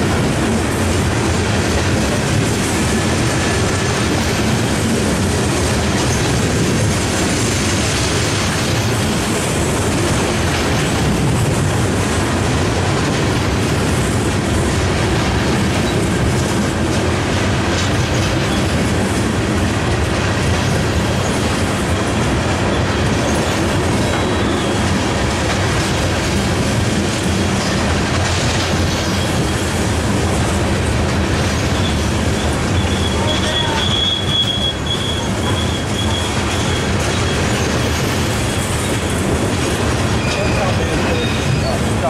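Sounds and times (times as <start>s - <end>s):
freight train wheels rolling: 0.0s - 42.0s.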